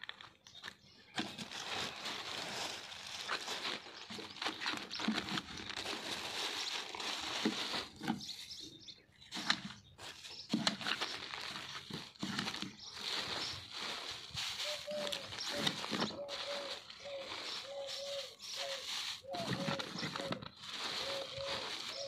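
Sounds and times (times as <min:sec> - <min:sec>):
plastic bags crinkling: 0:01.2 - 0:08.2, 0:10.0 - 0:22.0.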